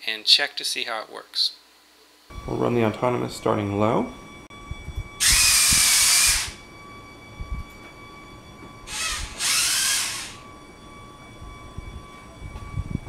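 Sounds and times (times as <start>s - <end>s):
electric motors whining: 2.3s - 13.0s.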